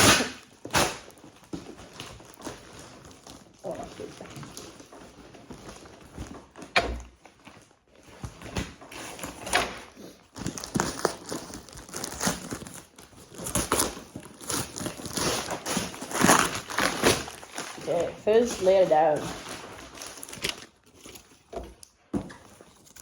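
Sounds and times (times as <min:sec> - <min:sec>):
packing material rustling: 0:00.0 - 0:23.0.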